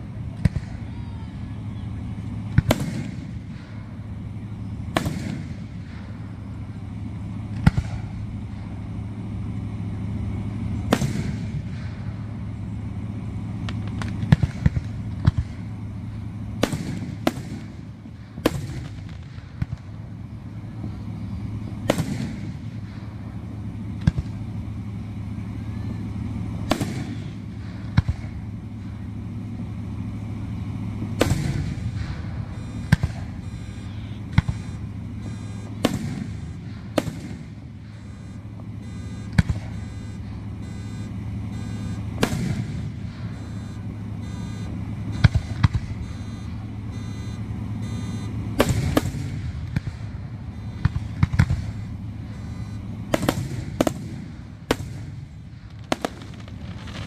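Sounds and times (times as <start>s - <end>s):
steady low hum: 0.0s - 57.0s
firework shells booming: 2.4s - 8.7s, 10.8s - 12.5s, 13.5s - 20.2s, 21.8s - 25.0s, 26.5s - 30.1s, 30.8s - 47.1s, 47.7s - 57.0s.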